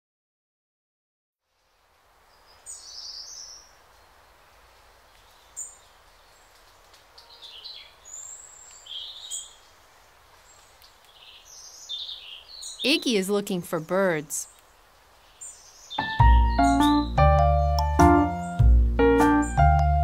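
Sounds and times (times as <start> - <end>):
wild birds chirping: 1.4 - 19.7
faint outdoor hiss: 1.4 - 20.0.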